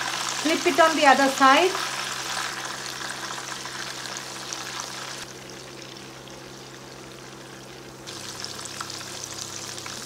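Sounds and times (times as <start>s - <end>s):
prawns sizzling in hot oil: 0.0s - 10.0s.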